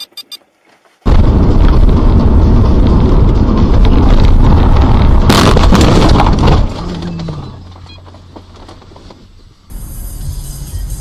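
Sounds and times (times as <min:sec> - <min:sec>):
rumbling road noise: 0:00.5 - 0:11.0.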